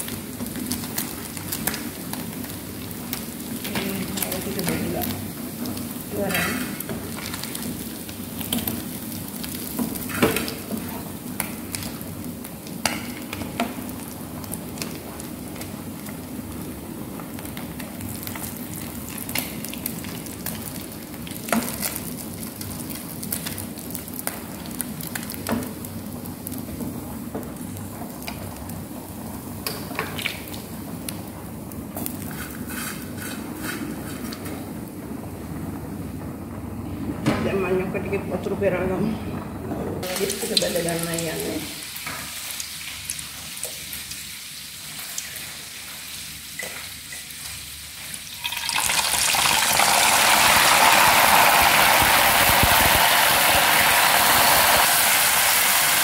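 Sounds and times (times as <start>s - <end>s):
fish sizzling in hot oil: 0.0s - 34.2s, 40.0s - 56.0s.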